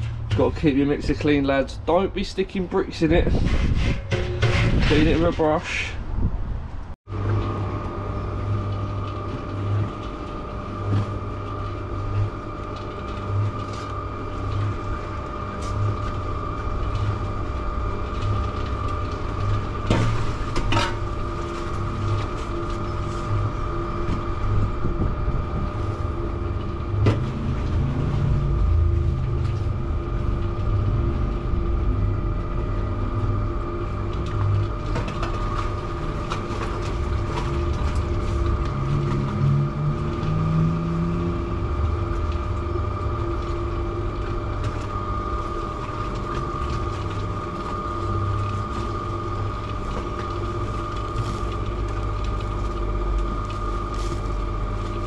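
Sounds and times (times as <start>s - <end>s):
cement mixer running: 0.0s - 6.3s, 7.1s - 55.0s.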